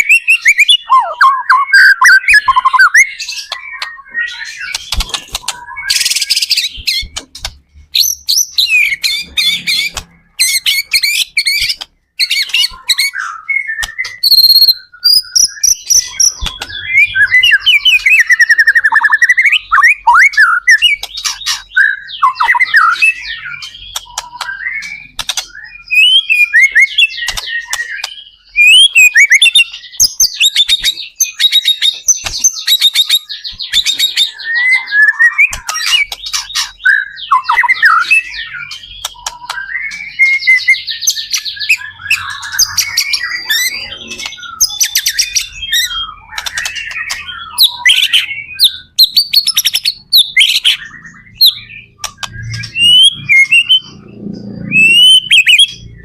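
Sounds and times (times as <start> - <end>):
songbird singing loudly: 0.0 - 56.0.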